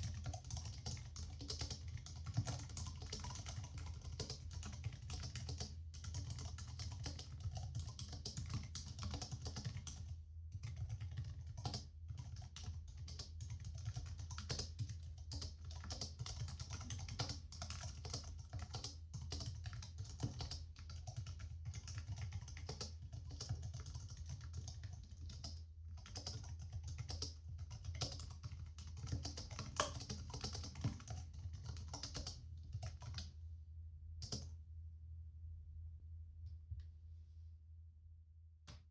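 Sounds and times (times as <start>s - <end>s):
typing on laptop keyboard: 0.0s - 33.3s.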